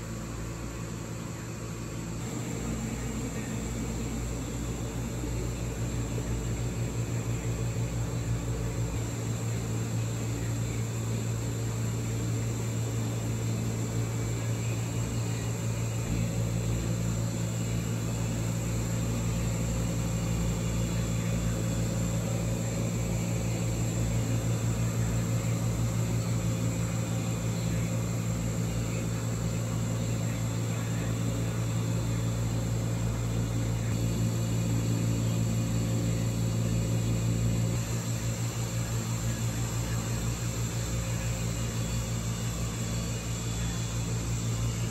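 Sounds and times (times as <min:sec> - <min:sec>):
faint high whine: 0:00.0 - 0:44.9
low mechanical hum: 0:00.0 - 0:44.9.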